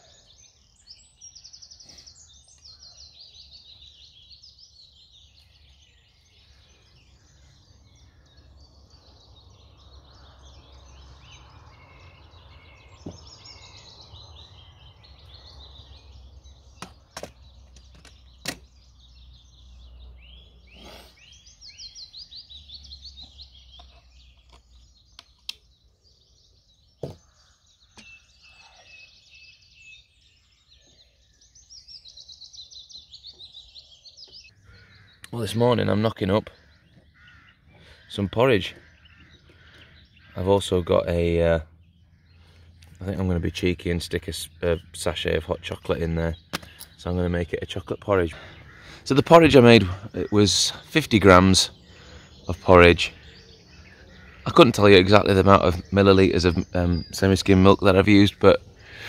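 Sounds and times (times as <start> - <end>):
small birds singing: 0.0 - 59.0.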